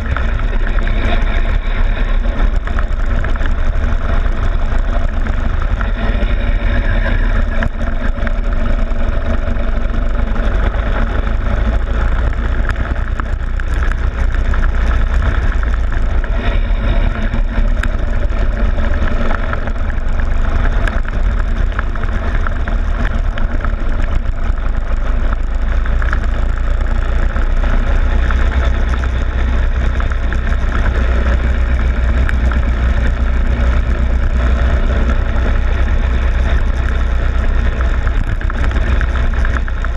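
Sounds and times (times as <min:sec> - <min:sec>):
go-kart engine running: 0:00.0 - 0:39.9
low rumble of vibration and wind: 0:00.0 - 0:39.9.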